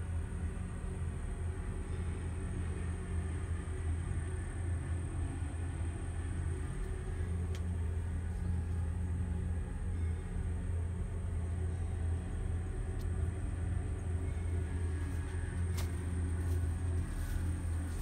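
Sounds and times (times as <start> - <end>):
machine rumbling: 0.0 - 18.0.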